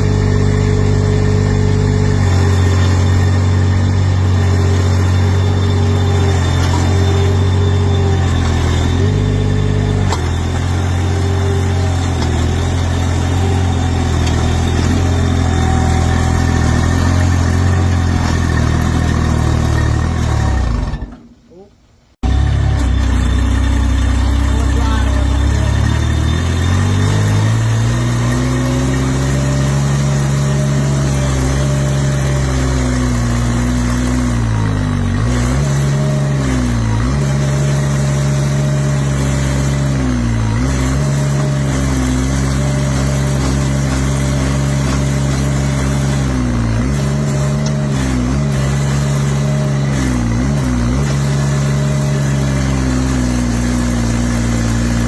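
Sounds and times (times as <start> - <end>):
engine revving and running: 0.0 - 21.2, 22.2 - 55.0.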